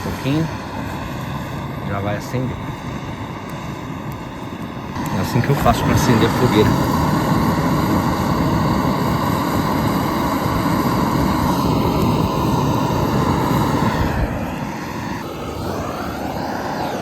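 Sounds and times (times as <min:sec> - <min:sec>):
gas blowtorch hissing: 0:00.0 - 0:17.0.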